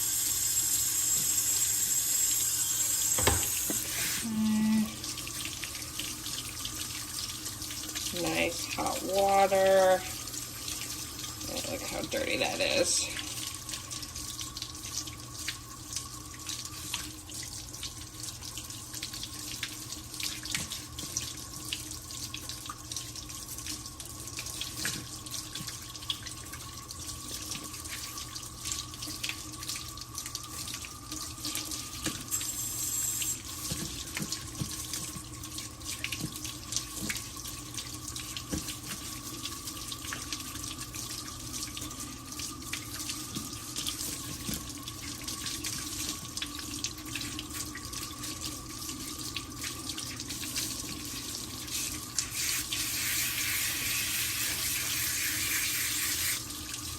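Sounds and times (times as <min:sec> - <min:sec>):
tap water running into sink: 0:00.0 - 0:56.9.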